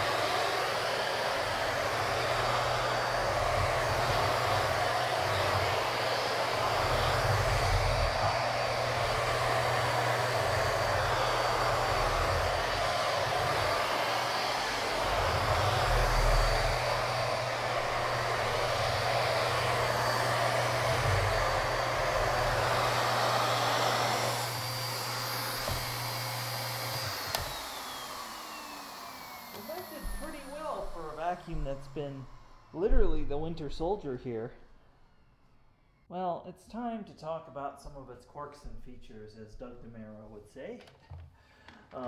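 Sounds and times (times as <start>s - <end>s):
vacuum cleaner motor whine: 0.0s - 36.0s.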